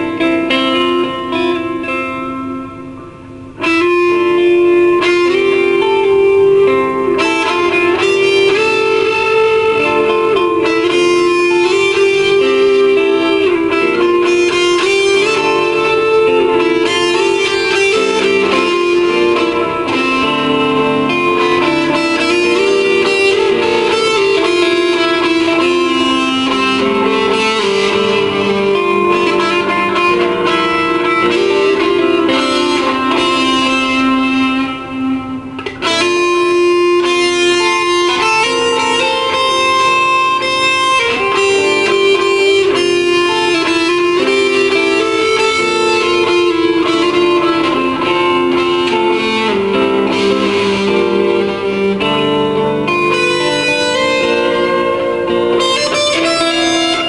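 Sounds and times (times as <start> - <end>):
electric guitar melodic lines: 0.0 - 57.0.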